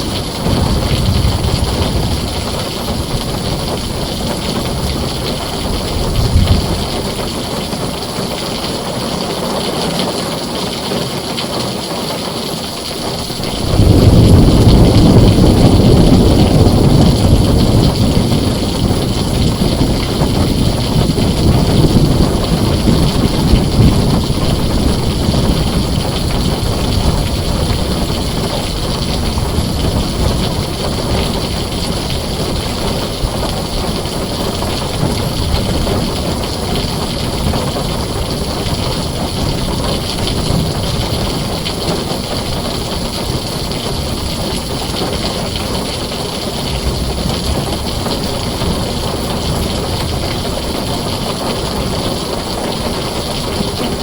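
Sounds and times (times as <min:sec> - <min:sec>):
low rumble of thunder: 0:00.0 - 0:09.0, 0:13.0 - 0:54.0
heavy rain on a tin roof: 0:00.0 - 0:54.0.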